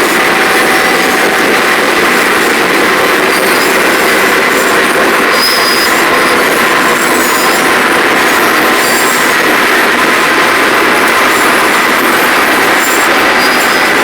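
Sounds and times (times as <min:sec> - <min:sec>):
high squeals: 0:00.0 - 0:14.0
milling machine grinding: 0:00.0 - 0:14.0.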